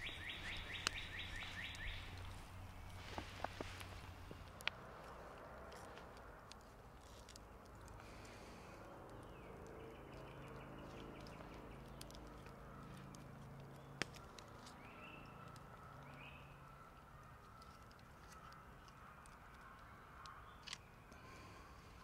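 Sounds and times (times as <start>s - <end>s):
campfire embers crackling: 0.0s - 22.0s.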